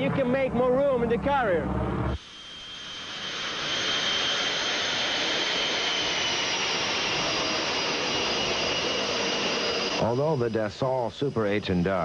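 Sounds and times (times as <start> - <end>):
jet engine high whine: 0.0 - 12.0
loud rush of jet noise: 0.4 - 12.0.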